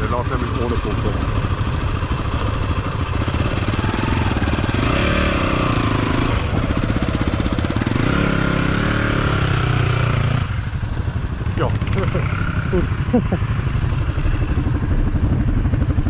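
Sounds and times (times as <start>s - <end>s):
dirt bike engine revving: 0.0s - 10.7s, 11.5s - 16.0s.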